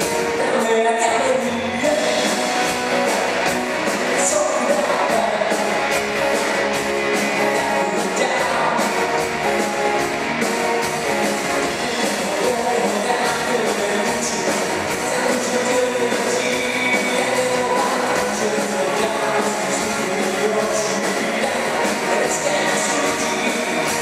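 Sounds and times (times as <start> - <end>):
drums: 0.0 - 24.0
electric guitars: 0.0 - 24.0
lead singer singing: 0.0 - 24.0.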